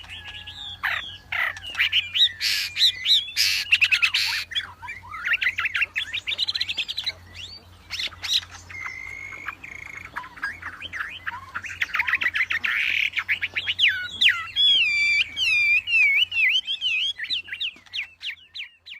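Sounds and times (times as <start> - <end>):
songbird whistling song: 0.0 - 18.9.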